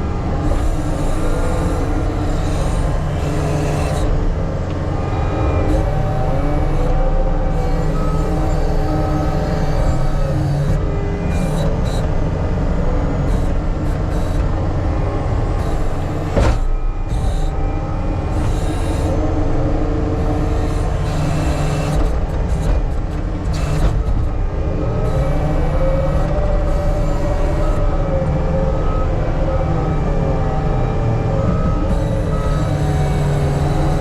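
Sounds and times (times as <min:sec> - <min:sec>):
heavy machinery engine running: 0:00.0 - 0:34.0.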